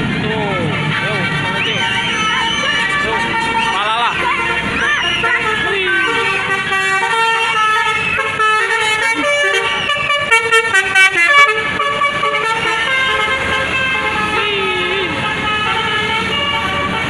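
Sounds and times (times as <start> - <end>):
multi-tone bus horn tune: 0.0 - 17.0.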